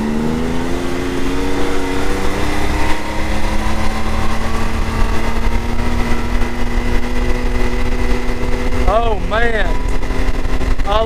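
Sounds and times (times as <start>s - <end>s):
turbocharged engine at high pitch: 0.0s - 11.0s
wind and road noise: 0.0s - 11.0s.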